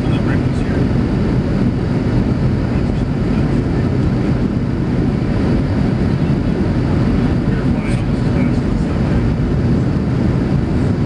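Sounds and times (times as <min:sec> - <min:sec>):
jet engine and airflow noise in cabin: 0:00.0 - 0:11.0.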